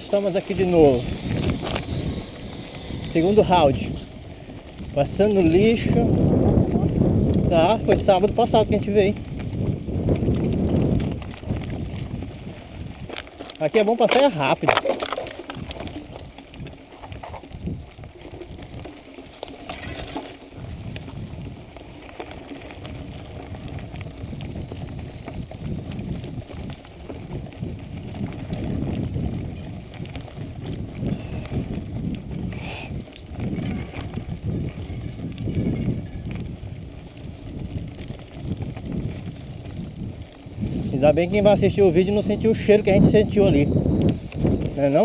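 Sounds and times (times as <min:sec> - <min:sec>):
bike rattling and knocking: 0:00.0 - 0:45.0
tyres rumbling on dirt: 0:00.0 - 0:45.0.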